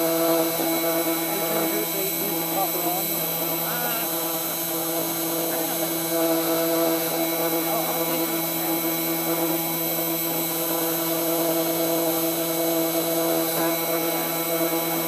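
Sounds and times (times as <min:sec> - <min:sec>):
mill spindle motor whining: 0:00.0 - 0:15.0.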